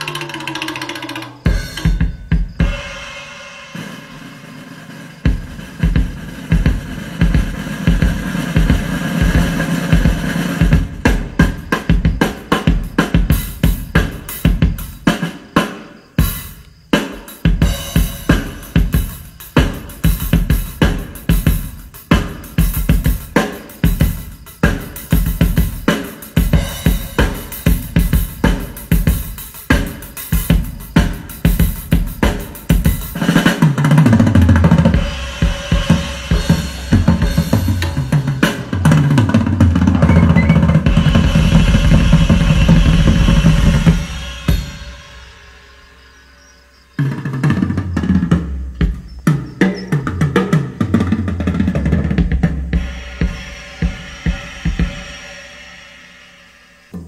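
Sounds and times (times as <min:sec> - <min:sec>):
drum track through speakers: 0:00.0 - 0:46.0, 0:47.0 - 0:56.2.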